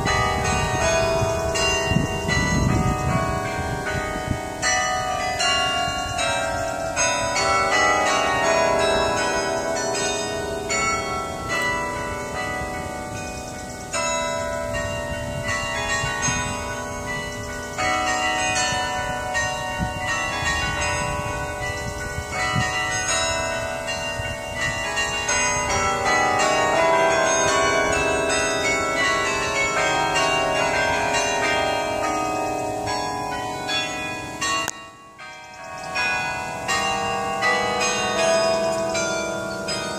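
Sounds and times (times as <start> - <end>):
carillon bells playing a tune: 0.0 - 39.9.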